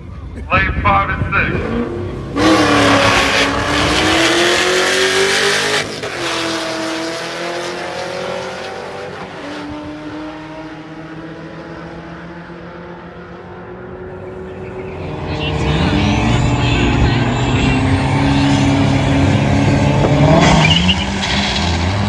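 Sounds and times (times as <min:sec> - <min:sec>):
racing car accelerating: 0:00.0 - 0:22.0.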